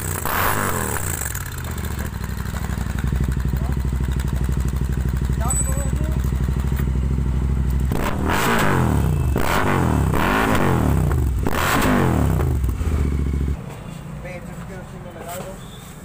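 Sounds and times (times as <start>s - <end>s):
motorcycle engine idling and revving: 0.0s - 13.8s.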